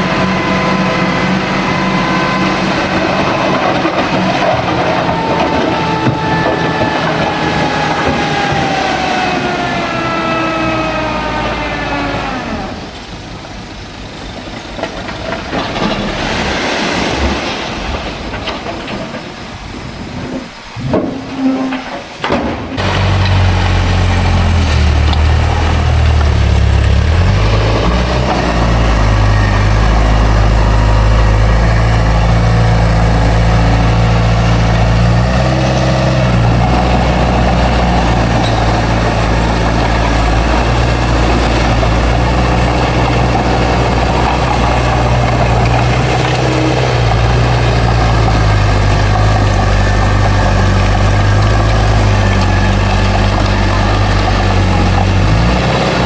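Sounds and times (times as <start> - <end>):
bulldozer diesel engine running: 0.0 - 16.6, 22.8 - 56.0.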